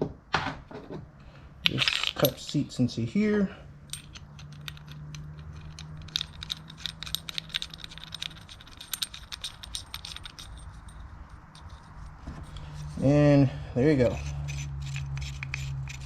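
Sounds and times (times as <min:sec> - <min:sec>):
small metal parts clinking: 0:01.6 - 0:03.0, 0:03.8 - 0:16.0.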